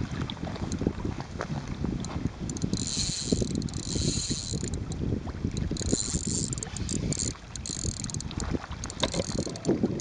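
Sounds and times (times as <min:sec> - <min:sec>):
wind buffeting microphone: 0:00.0 - 0:10.0
fishing reel whirring: 0:02.0 - 0:10.0.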